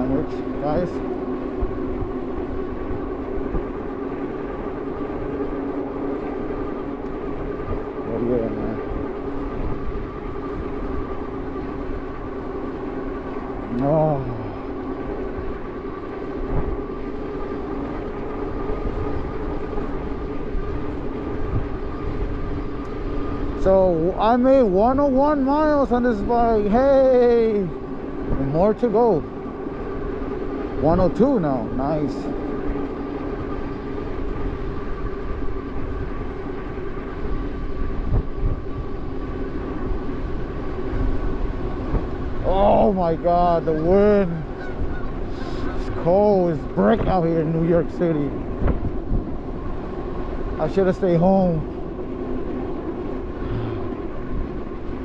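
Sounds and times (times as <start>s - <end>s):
electric bike motor whining: 0.0s - 55.0s
wind rumble on microphone: 0.0s - 55.0s.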